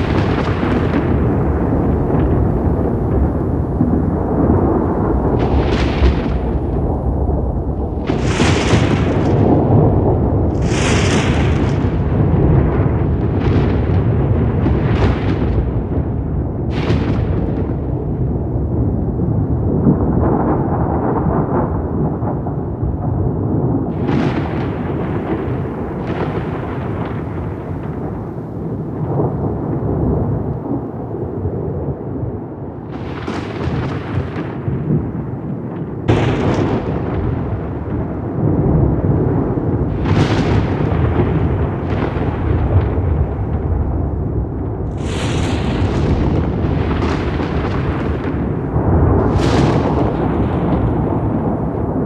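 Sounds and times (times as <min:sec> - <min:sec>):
thunder rumbling with sharp cracks: 0:00.0 - 0:52.0.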